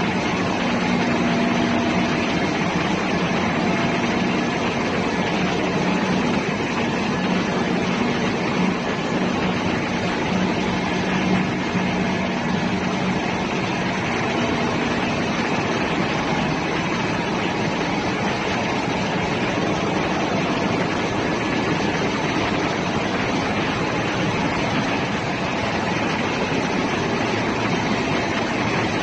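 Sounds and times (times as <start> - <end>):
engine room machinery roar: 0.0 - 29.0
low hum: 0.0 - 29.0.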